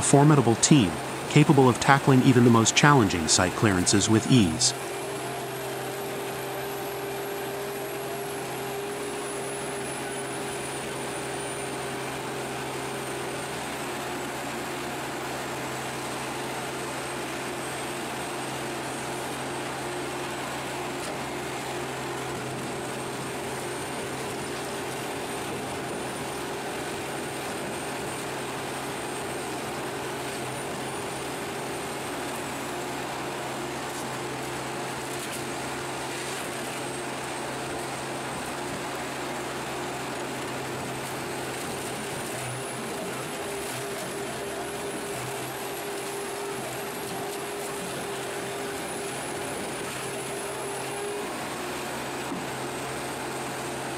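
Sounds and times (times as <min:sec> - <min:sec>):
diesel machinery drone: 0:00.0 - 0:53.9.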